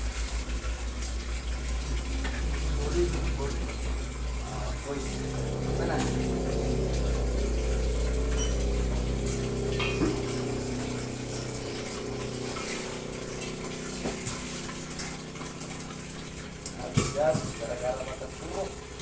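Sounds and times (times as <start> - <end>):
low steady hum: 0.0 - 19.0
tap water running into basin: 0.0 - 19.0.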